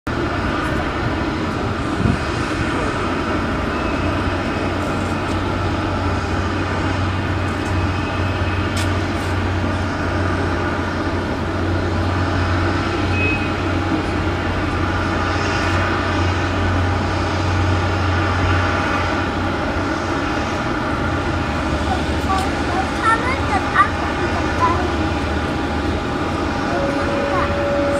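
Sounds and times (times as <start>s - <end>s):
jet engine drone: 0.1s - 27.9s.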